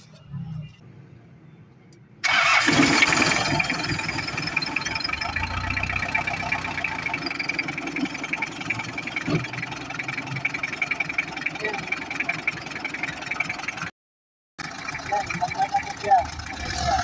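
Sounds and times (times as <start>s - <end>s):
diesel engine starting and idling: 2.2s - 13.9s, 14.6s - 17.0s.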